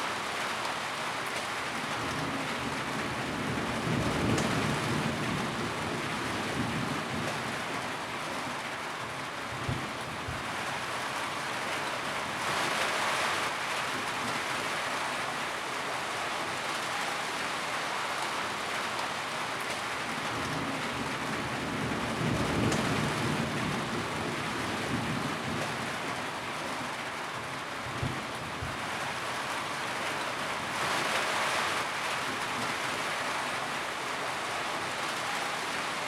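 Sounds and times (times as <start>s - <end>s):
heavy rain on a tin roof: 0.0s - 36.0s.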